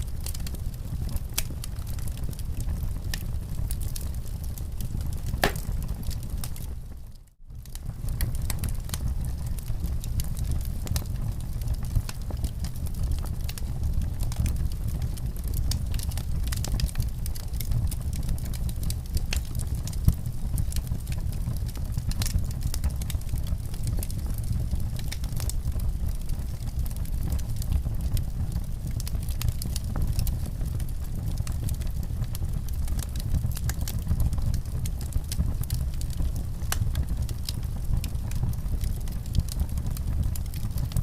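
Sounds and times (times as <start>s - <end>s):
wood fire crackling: 0.0s - 41.0s
fire pops and snaps: 0.2s - 6.7s, 7.6s - 41.0s.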